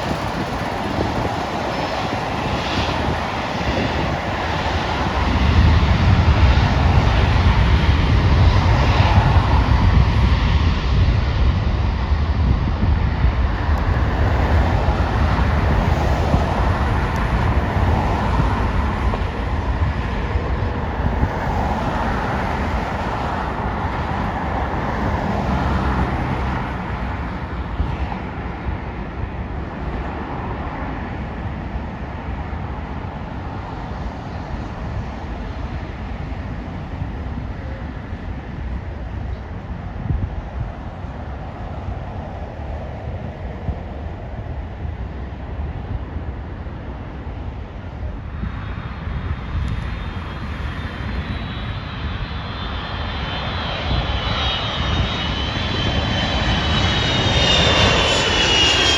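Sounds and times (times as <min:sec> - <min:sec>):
jet airliner engine rumble: 0:00.0 - 0:58.9.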